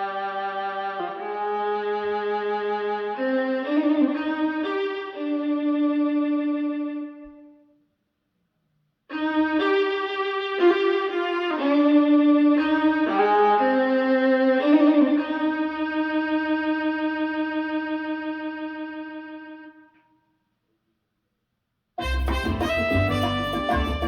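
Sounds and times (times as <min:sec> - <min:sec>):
violin long held notes: 0:00.0 - 0:07.6, 0:09.1 - 0:20.0, 0:22.0 - 0:24.0.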